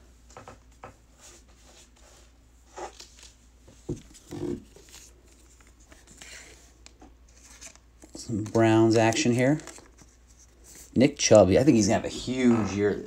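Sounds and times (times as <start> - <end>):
plastic sleeves rustling: 1.4 - 13.0.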